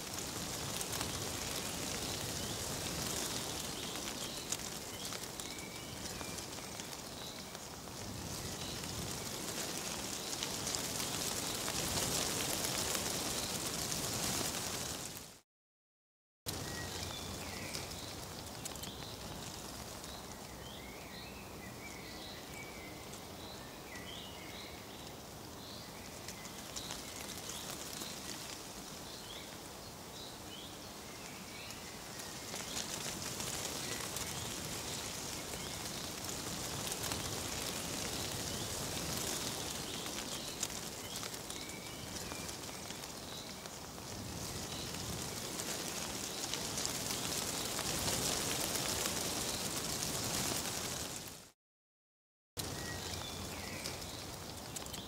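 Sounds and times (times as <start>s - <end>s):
leaves rustling: 0.0s - 15.4s, 16.5s - 51.6s, 52.6s - 55.0s
small birds chirping: 0.1s - 15.0s, 16.5s - 51.2s, 52.6s - 55.0s.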